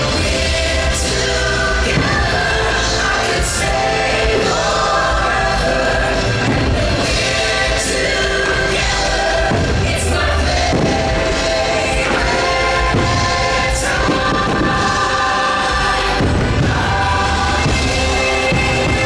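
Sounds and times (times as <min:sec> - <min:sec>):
choir singing over loudspeakers: 0:00.0 - 0:19.0
fireworks thuds: 0:00.8 - 0:19.0.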